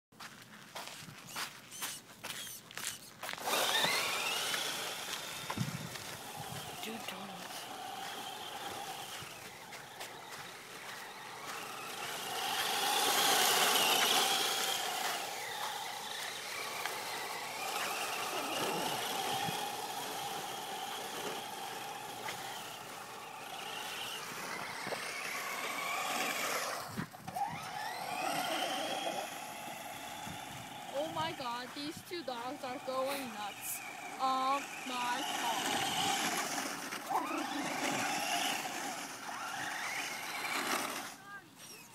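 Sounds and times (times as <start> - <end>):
electric motor whining: 1.2 - 41.9.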